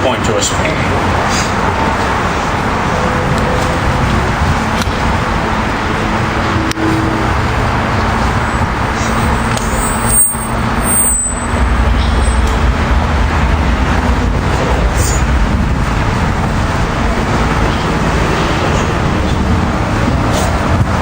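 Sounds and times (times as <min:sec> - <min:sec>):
heavy vehicle rumble: 0:00.0 - 0:21.0
road traffic noise: 0:00.0 - 0:21.0.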